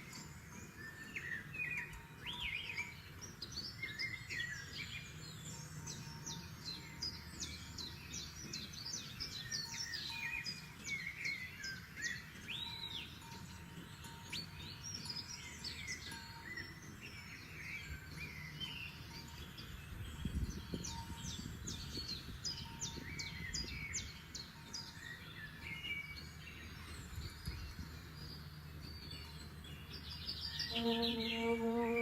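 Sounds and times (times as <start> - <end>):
songbirds singing and chirping: 0.0 - 32.0.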